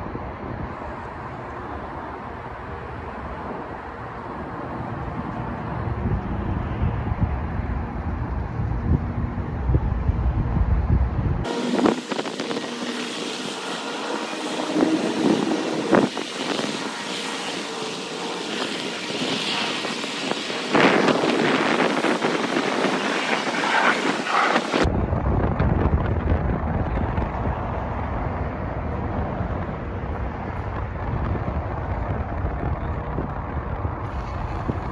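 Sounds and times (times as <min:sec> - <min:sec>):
wind rumbling on microphone: 0:00.0 - 0:34.9.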